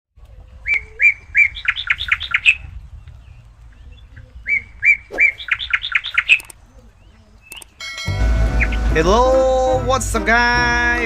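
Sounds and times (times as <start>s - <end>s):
songbird singing: 0.2s - 11.0s.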